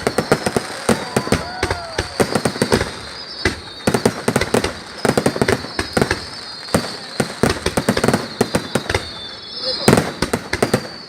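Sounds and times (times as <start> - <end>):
faint high whistle: 0.0 - 11.0
fireworks bangs and pops: 0.0 - 11.0.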